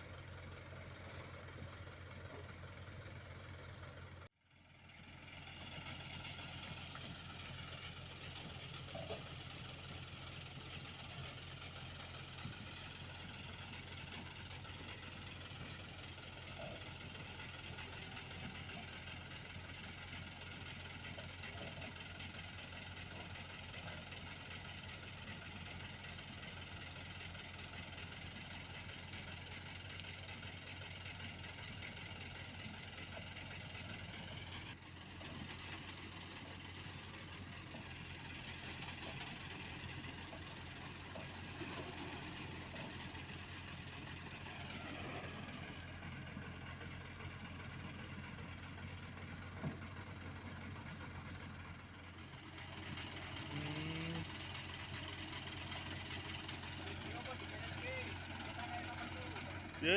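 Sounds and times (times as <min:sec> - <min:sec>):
diesel machinery engines running: 0:00.0 - 0:59.9.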